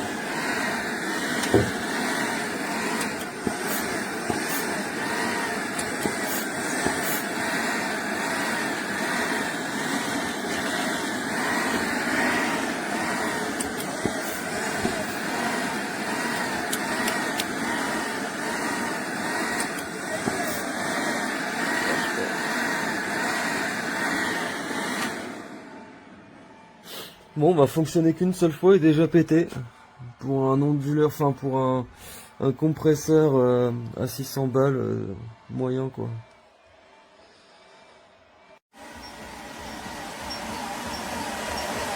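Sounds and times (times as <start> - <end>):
air compressor whining: 0.0 - 36.3, 38.6 - 41.9.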